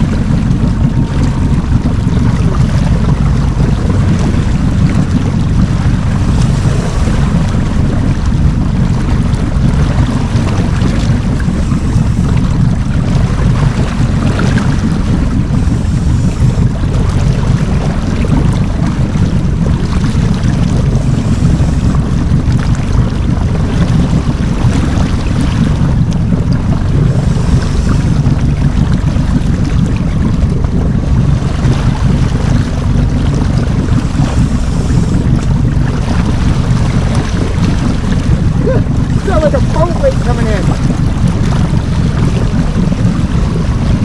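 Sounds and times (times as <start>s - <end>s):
boat motor rumbling: 0.0s - 44.0s
wind buffeting microphone: 0.0s - 44.0s.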